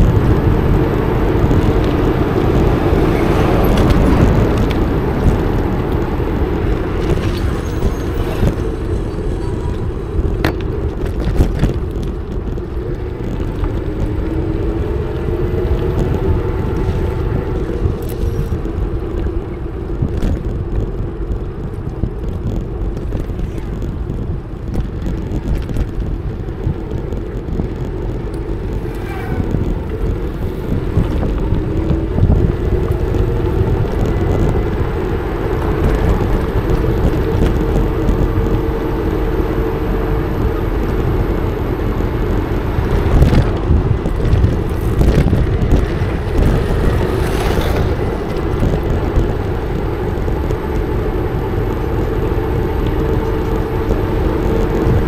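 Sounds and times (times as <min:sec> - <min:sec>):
road noise: 0:00.0 - 0:55.0
wind rumbling on microphone: 0:00.0 - 0:55.0.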